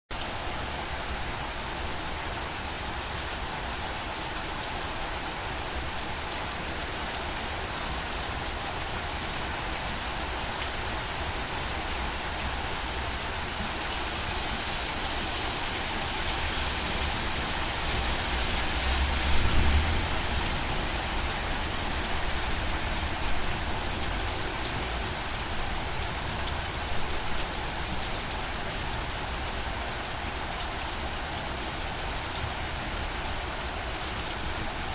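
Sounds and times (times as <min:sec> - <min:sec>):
rain pattering: 0:00.2 - 0:34.9.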